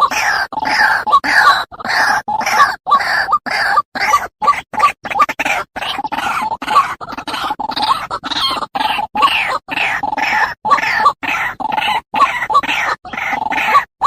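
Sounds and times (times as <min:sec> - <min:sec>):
bird harsh croaking calls: 0:00.0 - 0:14.0.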